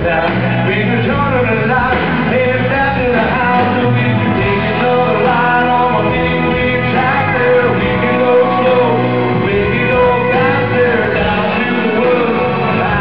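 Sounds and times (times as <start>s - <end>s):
electric guitars: 0.0s - 13.0s
man singing into microphone: 0.0s - 13.0s.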